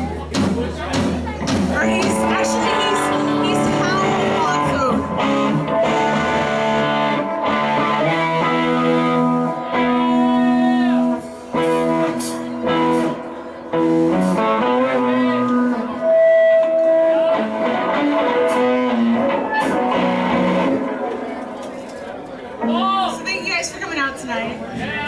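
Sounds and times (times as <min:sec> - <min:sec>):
live band music: 0:00.0 - 0:21.9.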